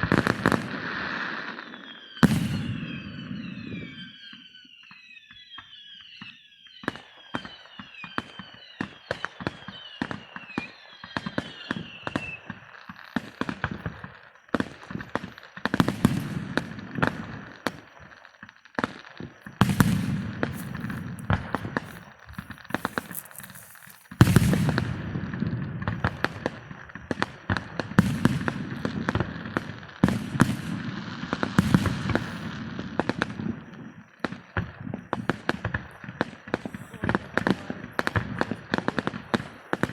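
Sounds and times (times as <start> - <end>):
firework bangs: 0.0 - 4.1, 6.8 - 39.9
firework whistles: 0.0 - 39.9
fireworks crackling and popping: 0.0 - 39.9.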